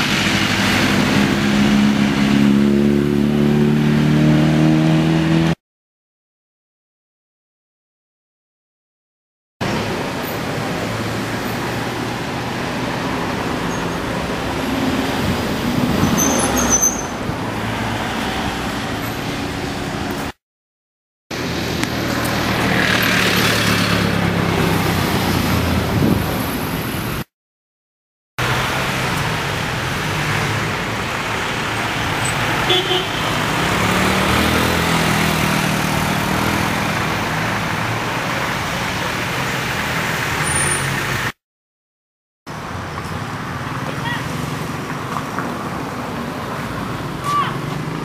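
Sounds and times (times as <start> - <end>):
cars passing on a street: 0.0 - 5.6, 9.6 - 20.4, 21.3 - 27.3, 28.4 - 41.4, 42.5 - 48.0.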